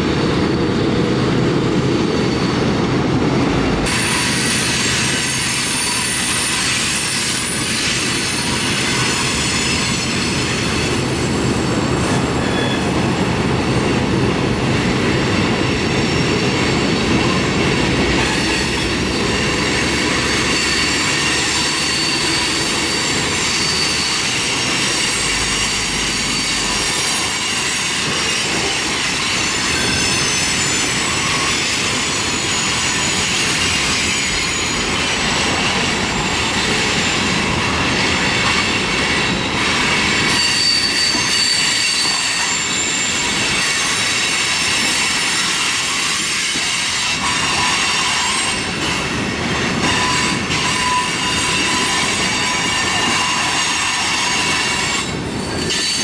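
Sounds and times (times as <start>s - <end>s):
train wheels rumbling on rails: 0.0s - 56.0s
high-pitched wheel squeal: 3.9s - 13.0s, 16.0s - 48.8s, 49.8s - 56.0s.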